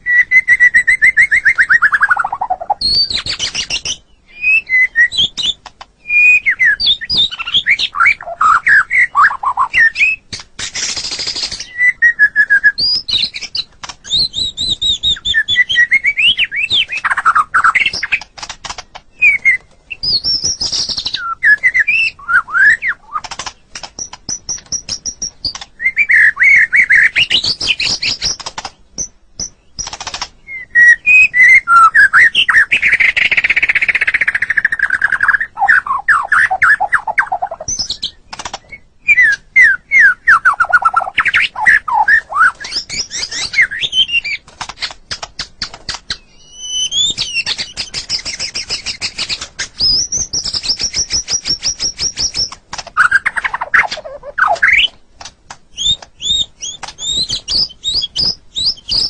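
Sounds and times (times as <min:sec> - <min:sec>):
songbird whistling and trilling: 0:00.0 - 0:55.0, 0:55.7 - 0:59.0.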